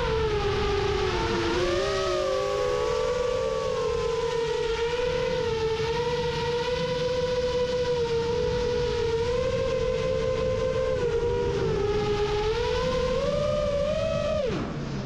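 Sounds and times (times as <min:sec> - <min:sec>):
drone propellers whining: 0:00.0 - 0:15.0
wind noise: 0:00.0 - 0:15.0.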